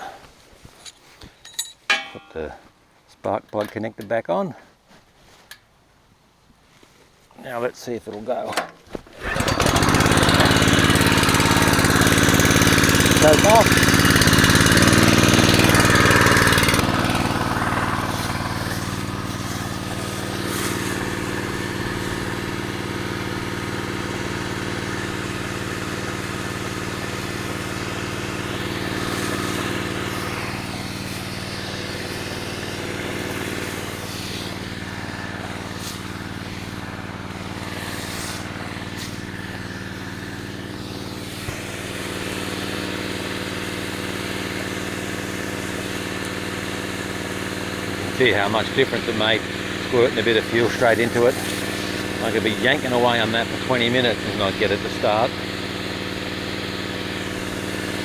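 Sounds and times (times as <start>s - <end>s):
small pump engine running: 9.2s - 58.0s.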